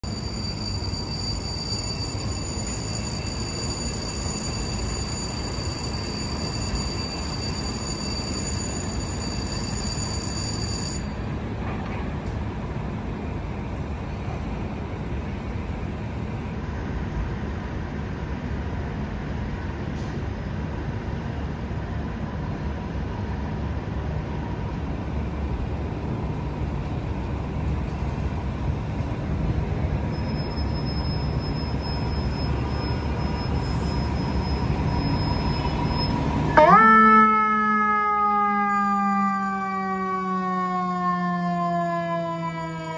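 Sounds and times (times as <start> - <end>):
fire engine pulling out: 0.0 - 42.9
idling engines and traffic: 0.1 - 42.9.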